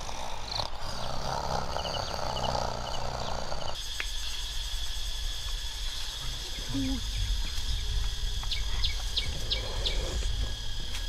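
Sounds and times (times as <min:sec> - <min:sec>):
high-pitched insect drone: 0:00.0 - 0:11.0
insect buzzing: 0:00.0 - 0:11.0.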